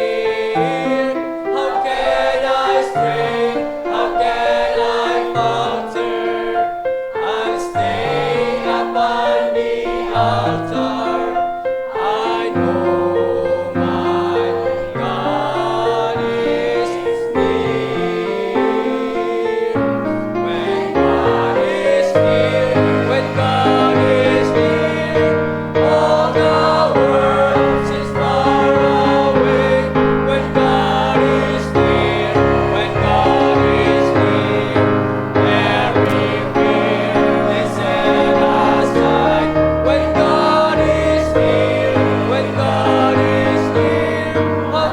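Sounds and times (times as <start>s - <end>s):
choir singing a hymn: 0.0s - 44.9s
instrumental accompaniment: 3.0s - 44.9s.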